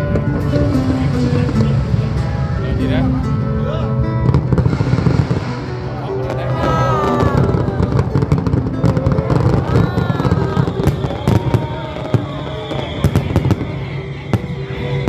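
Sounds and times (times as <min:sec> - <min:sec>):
fireworks bursting and crackling: 0:00.0 - 0:03.6, 0:04.2 - 0:15.0
music playing: 0:00.0 - 0:15.0.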